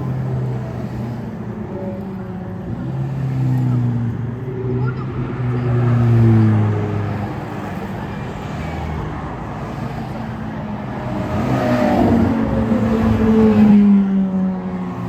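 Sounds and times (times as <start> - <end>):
sports cars driving past: 0.0 - 15.0.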